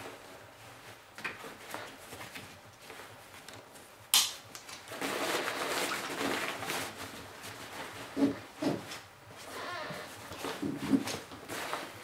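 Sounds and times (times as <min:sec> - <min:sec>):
nylon fabric rustling: 0:00.0 - 0:04.0, 0:04.8 - 0:12.0.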